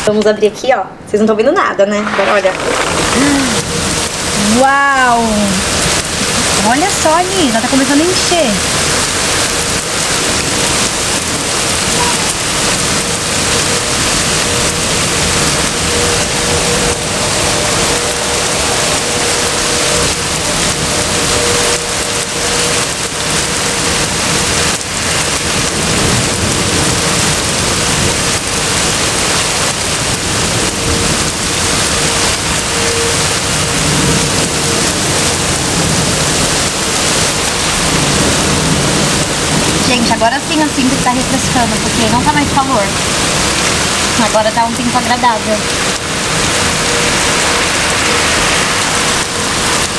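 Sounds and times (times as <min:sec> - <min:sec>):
heavy rain pouring: 0:01.8 - 0:49.9.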